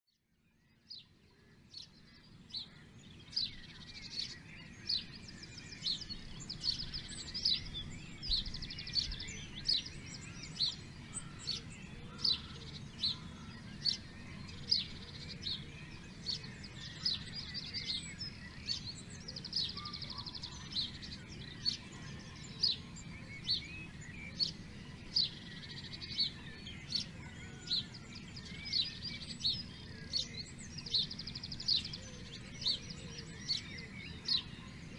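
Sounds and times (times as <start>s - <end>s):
birds trilling: 1.4s - 34.9s.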